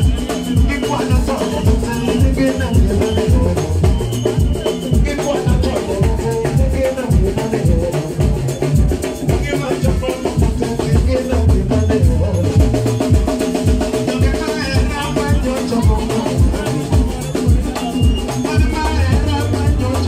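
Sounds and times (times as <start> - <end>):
heavy bass beat: 0.0 - 20.0.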